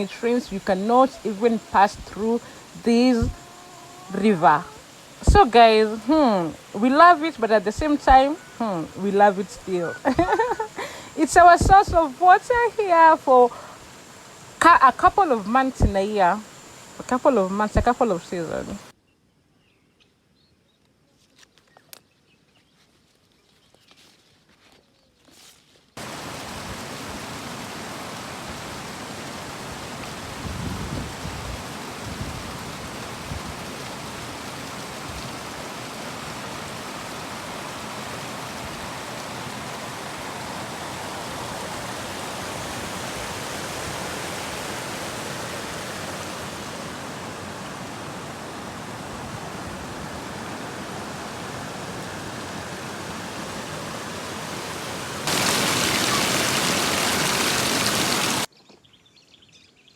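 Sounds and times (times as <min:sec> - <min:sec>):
river water rushing: 0:00.0 - 0:18.9, 0:26.0 - 0:58.5.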